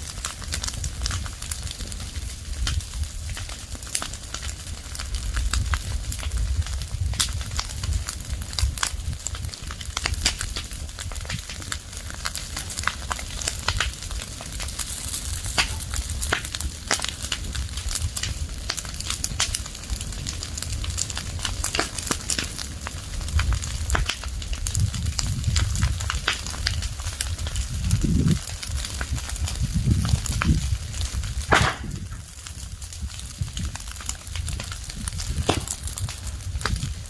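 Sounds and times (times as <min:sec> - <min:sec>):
leaves and twigs fire crackling: 0:00.0 - 0:37.0.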